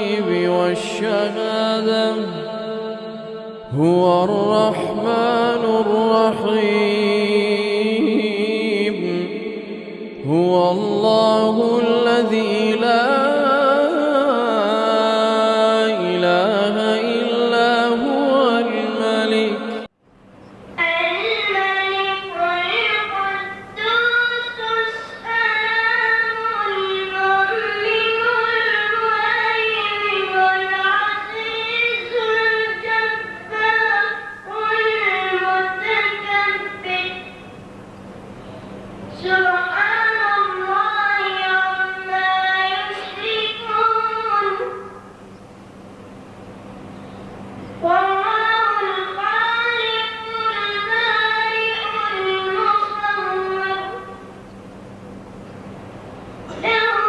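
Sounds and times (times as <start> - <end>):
boy reciting melodically: 0.0 - 19.9, 20.8 - 37.5, 39.1 - 45.1, 47.8 - 54.4, 56.5 - 57.0
steady low hum: 0.0 - 57.0.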